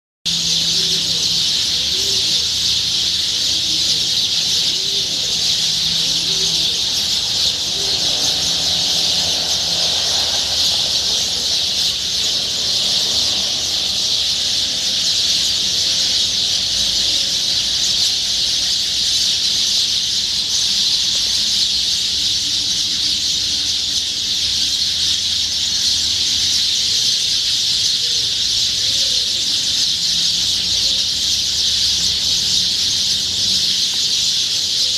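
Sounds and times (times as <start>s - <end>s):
birds chirping in chorus: 0.3s - 34.9s.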